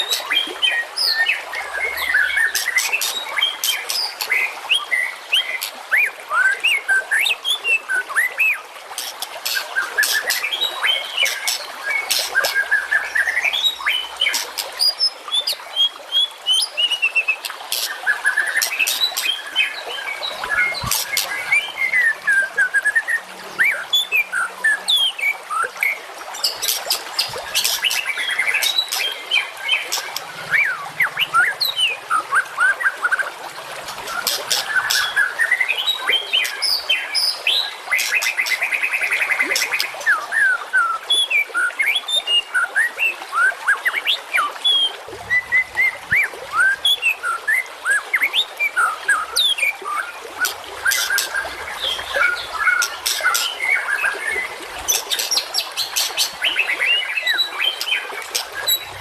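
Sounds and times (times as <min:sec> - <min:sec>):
songbirds singing: 0:00.0 - 0:43.1, 0:43.8 - 0:59.0.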